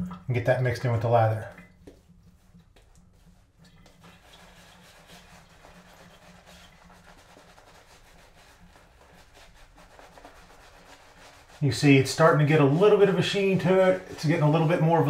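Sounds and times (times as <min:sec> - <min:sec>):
shave brush rubbing lather: 0:01.3 - 0:15.0.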